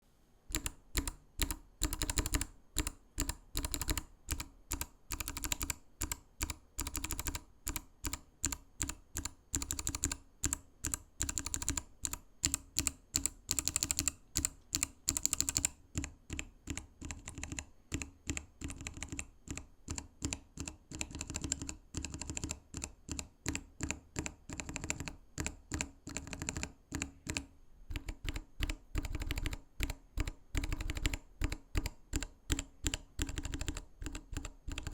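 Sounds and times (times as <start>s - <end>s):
mechanical keyboard typing: 0.5s - 34.9s.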